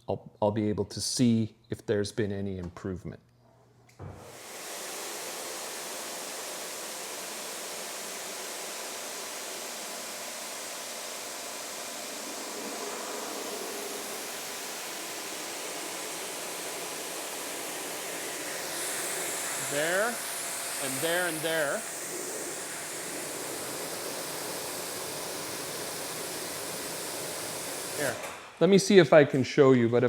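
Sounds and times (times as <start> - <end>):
pressure washer spraying water: 4.2 - 28.5.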